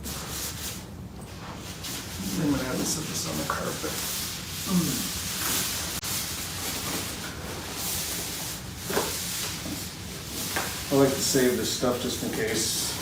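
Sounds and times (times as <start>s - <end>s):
cardboard and styrofoam rustling: 1.4s - 13.0s.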